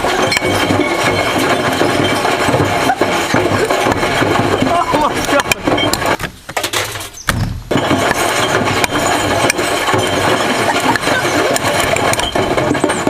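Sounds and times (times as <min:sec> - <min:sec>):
washing machine running: 0:00.0 - 0:06.2, 0:07.8 - 0:13.0
glass jar clattering in drum: 0:00.0 - 0:13.0.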